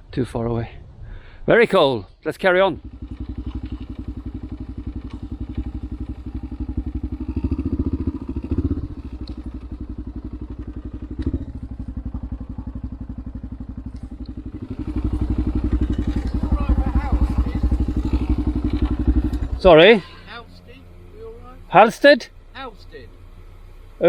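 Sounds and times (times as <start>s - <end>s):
motorcycle engine idling: 2.7s - 24.0s.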